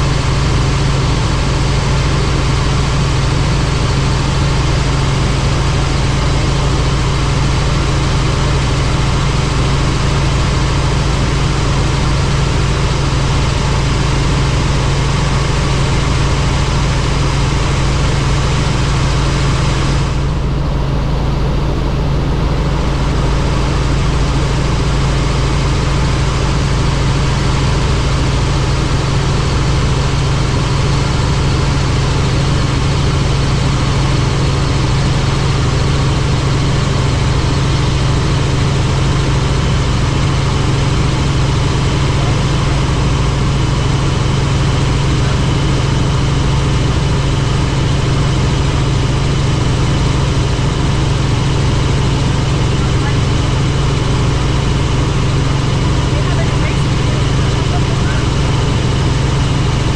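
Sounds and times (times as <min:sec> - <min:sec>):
helicopter engine and rotors droning: 0:00.0 - 0:59.9.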